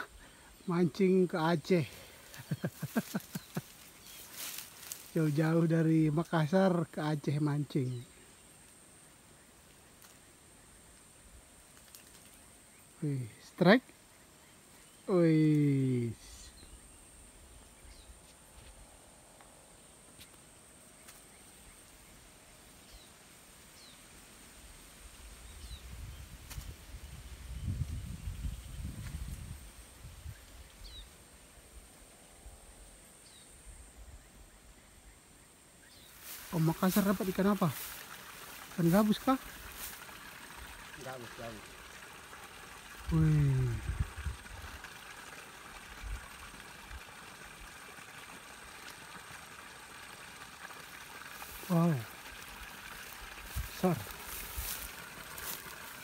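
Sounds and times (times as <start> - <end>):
faint outdoor hiss: 0.0 - 56.0.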